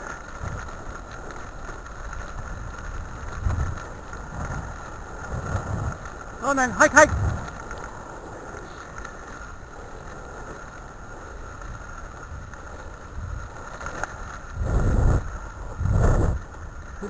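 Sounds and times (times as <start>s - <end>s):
rig rolling over gravel: 0.0s - 17.0s
wind buffeting microphone: 0.0s - 17.0s.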